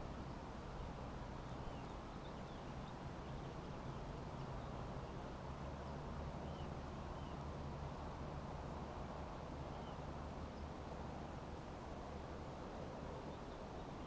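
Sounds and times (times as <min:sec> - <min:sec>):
faint songbird chirps: 0:00.0 - 0:14.0.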